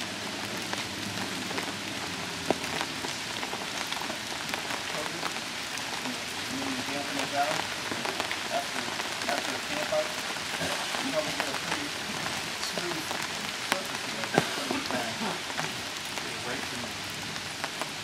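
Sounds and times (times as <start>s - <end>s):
rain on tent fabric: 0.0s - 18.0s.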